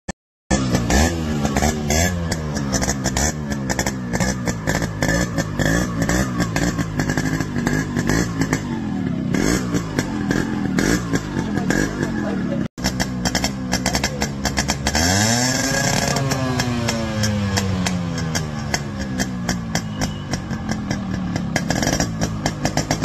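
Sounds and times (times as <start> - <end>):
engine crackles: 0.5 - 23.0
two-stroke engine revving: 0.5 - 23.0.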